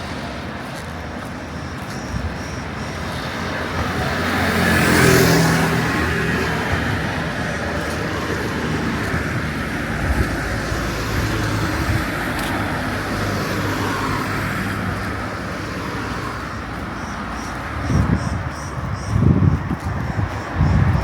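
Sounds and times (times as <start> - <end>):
cars passing close by: 0.0 - 21.0.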